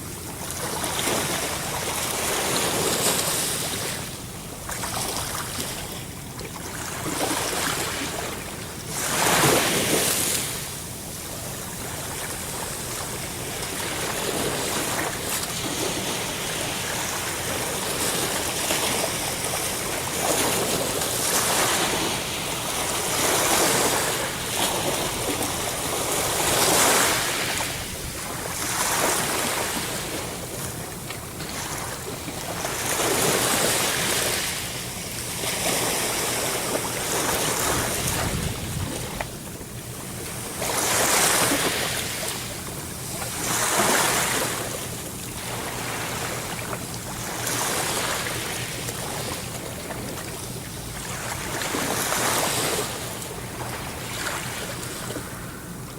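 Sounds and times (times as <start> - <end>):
ocean waves breaking on shore: 0.0 - 55.9.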